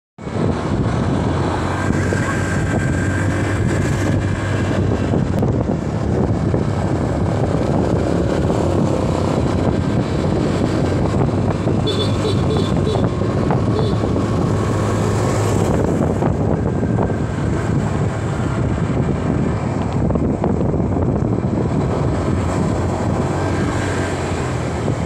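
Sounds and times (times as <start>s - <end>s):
motorcycle engine humming: 0.2s - 25.0s
wind and road noise: 0.2s - 25.0s.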